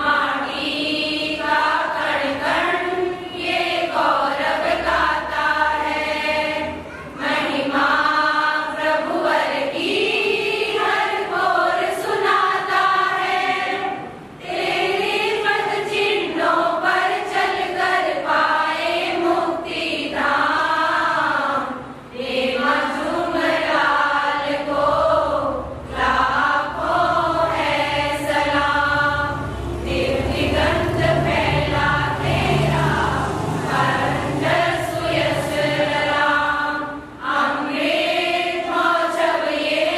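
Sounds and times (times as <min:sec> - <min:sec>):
women's choir singing: 0:00.0 - 0:39.9.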